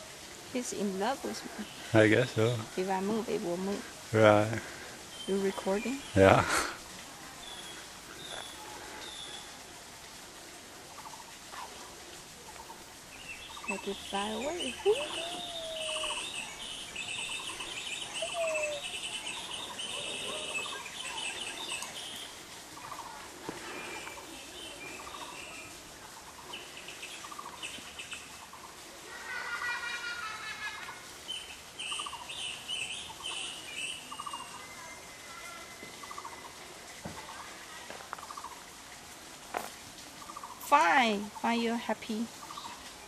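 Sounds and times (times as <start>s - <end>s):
birds chirping: 0.0s - 9.7s, 10.9s - 38.7s, 40.2s - 43.0s.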